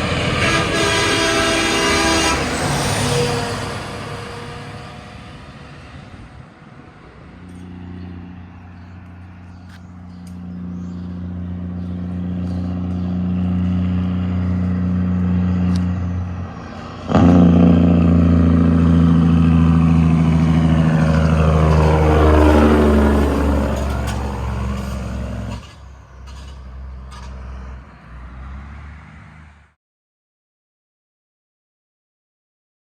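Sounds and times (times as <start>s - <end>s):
truck diesel engine accelerating: 0.0s - 29.8s.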